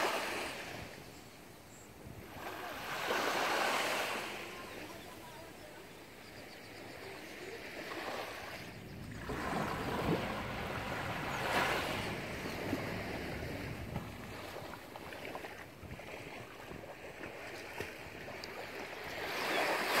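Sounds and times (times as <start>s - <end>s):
small waves washing onto beach: 0.0s - 20.0s.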